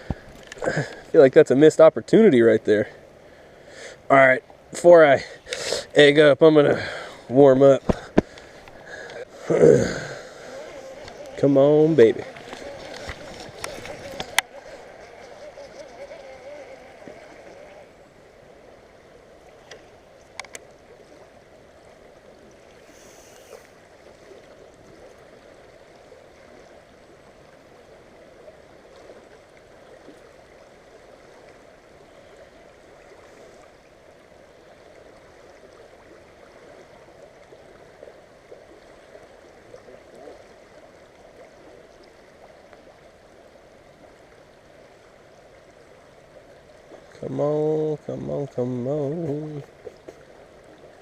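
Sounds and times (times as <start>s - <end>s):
river water flowing: 0.0s - 51.0s.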